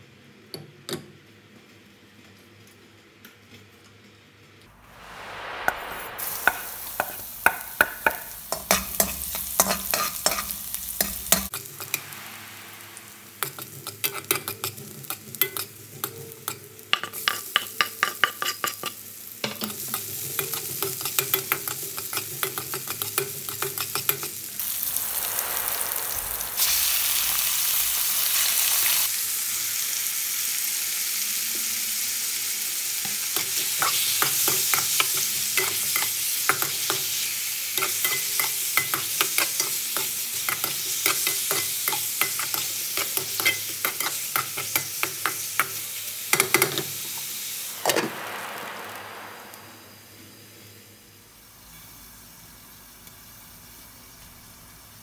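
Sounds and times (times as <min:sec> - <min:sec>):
garlic and onion sizzling in oil: 0:05.0 - 0:50.6.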